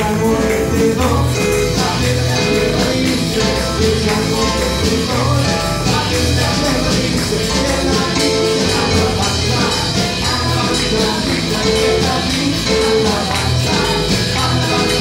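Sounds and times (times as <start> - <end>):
drum kit beat: 0.0 - 15.0
electric keyboard: 0.0 - 15.0.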